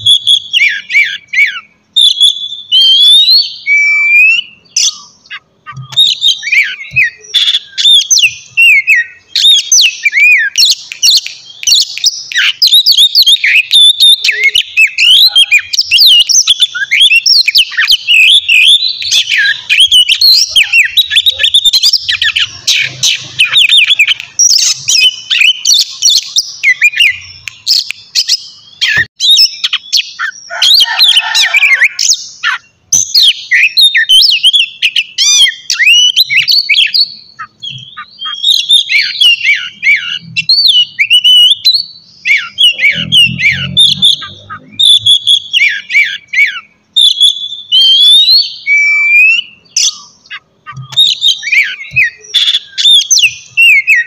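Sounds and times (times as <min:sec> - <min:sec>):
songbird singing loudly: 0:00.0 - 0:54.0.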